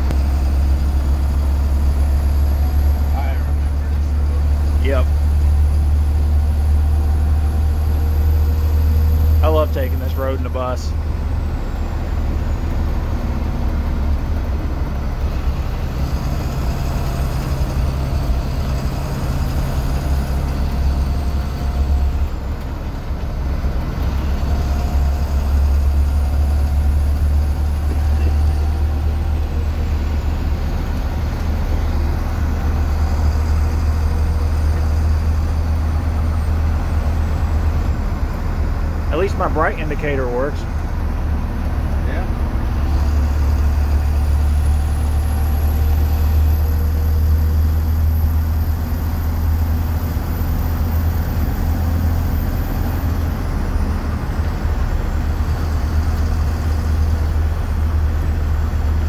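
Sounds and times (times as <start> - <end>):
diesel engine droning: 0.0 - 59.0
road noise: 0.0 - 59.0.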